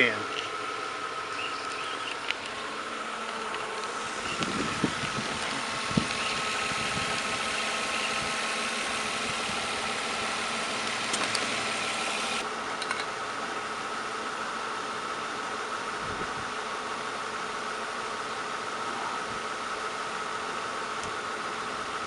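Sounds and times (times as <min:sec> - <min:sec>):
air conditioning whine: 0:00.0 - 0:22.0
car engine idling: 0:00.0 - 0:22.0.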